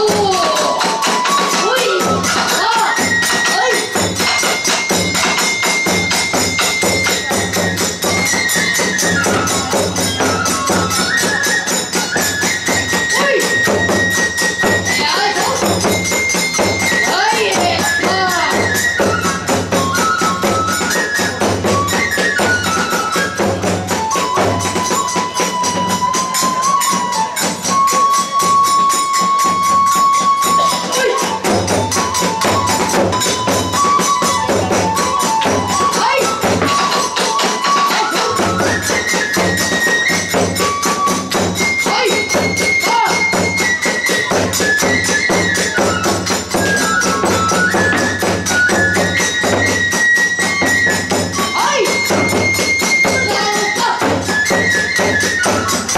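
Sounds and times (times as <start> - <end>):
bamboo flute melody: 0.0 - 55.9
small hand cymbals clashing: 0.0 - 55.9.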